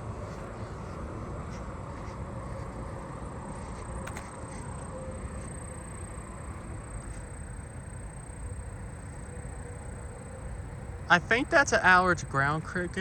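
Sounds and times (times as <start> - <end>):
cricket trilling: 2.4 - 13.0.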